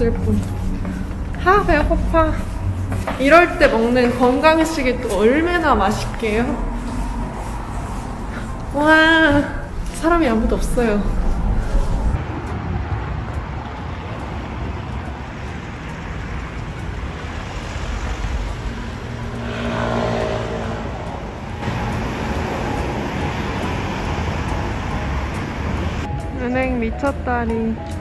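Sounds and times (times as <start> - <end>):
city road traffic: 0.0 - 28.0.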